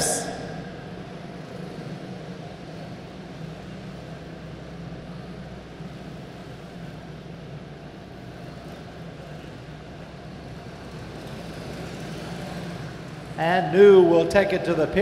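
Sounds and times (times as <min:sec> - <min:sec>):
small race car engines running: 0:00.0 - 0:15.0.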